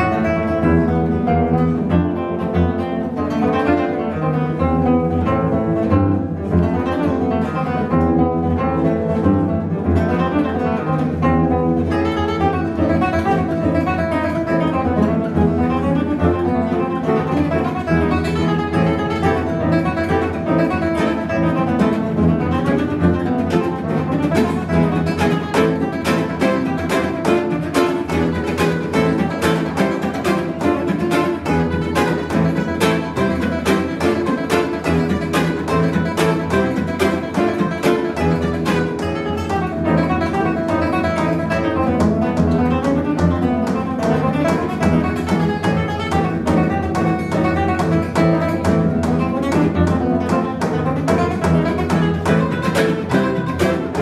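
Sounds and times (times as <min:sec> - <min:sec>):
acoustic guitars playing fast: 0:00.0 - 0:54.0.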